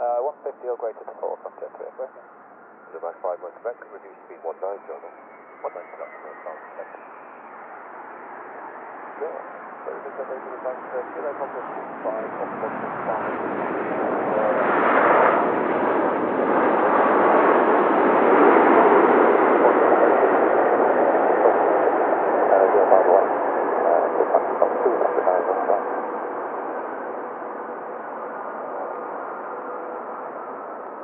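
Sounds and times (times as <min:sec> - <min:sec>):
jet engines passing overhead: 0:00.0 - 0:31.0.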